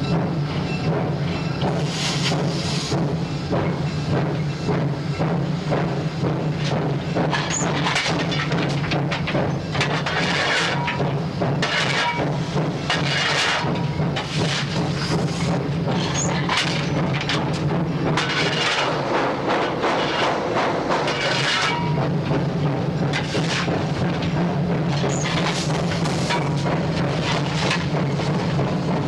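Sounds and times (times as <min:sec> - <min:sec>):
loud rush of steam: 0:00.0 - 0:29.0
low locomotive drone: 0:00.0 - 0:29.0
steam locomotive exhaust chuffs: 0:00.0 - 0:29.0.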